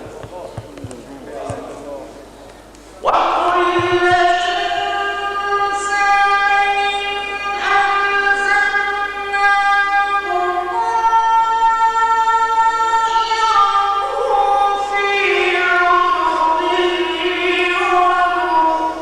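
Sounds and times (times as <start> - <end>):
man chanting melismatically: 3.0 - 19.0.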